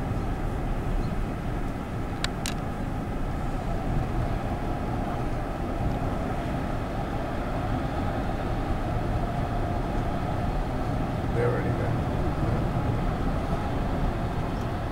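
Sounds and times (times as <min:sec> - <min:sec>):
car road and engine noise: 0:00.0 - 0:14.9.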